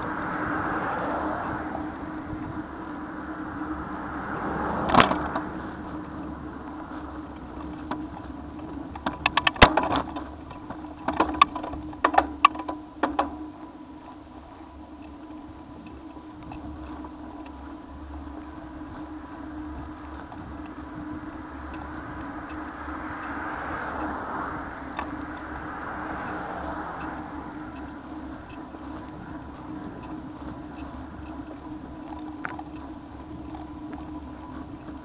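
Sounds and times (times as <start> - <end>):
bicycle rattling over bumps: 0.0 - 35.0
steady riding hum: 0.0 - 35.0.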